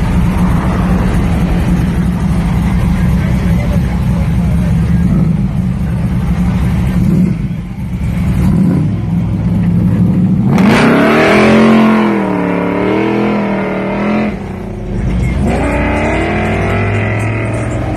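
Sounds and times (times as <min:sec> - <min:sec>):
car engine rumbling and revving: 0:00.0 - 0:17.9.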